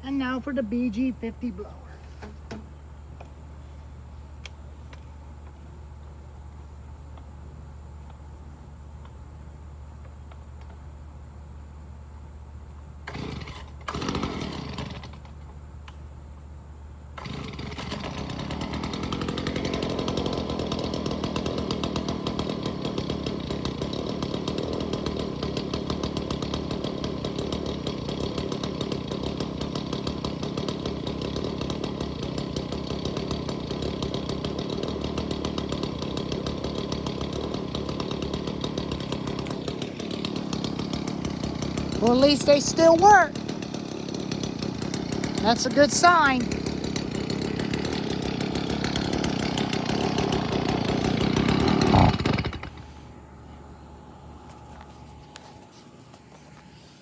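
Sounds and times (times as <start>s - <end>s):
leaf blower engine: 0.0s - 16.0s, 16.9s - 57.0s.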